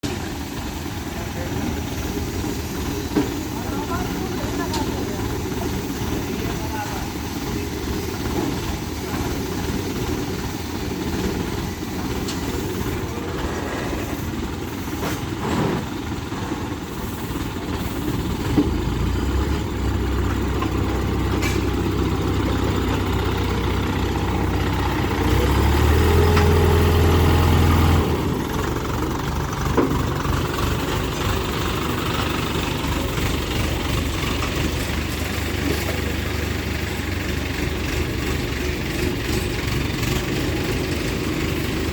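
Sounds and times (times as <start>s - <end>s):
heavy vehicle engine running: 0.0s - 41.9s.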